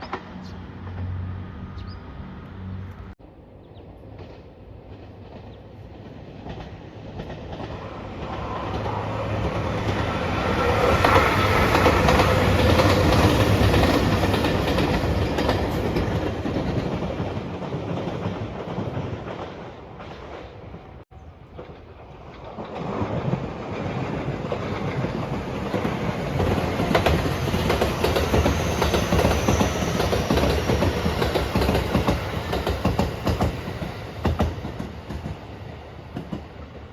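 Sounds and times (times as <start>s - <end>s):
train passing: 0.0s - 36.9s.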